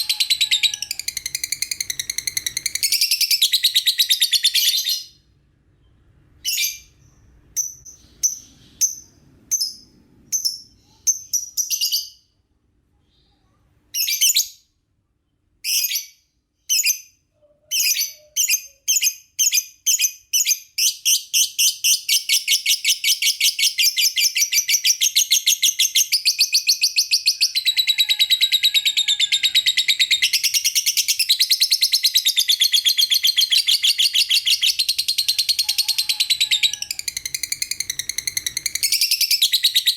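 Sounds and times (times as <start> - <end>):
lovebird chirping: 0.0 - 12.3, 15.6 - 39.9.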